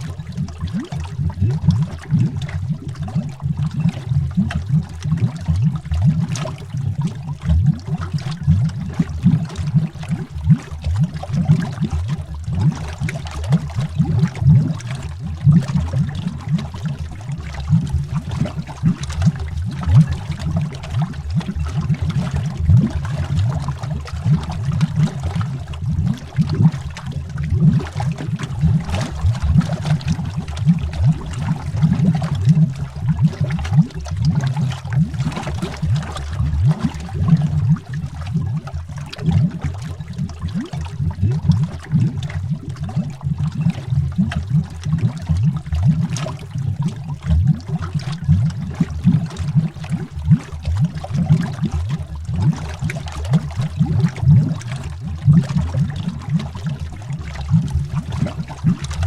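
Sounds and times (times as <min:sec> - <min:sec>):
underwater bubbling: 0:00.0 - 0:59.0.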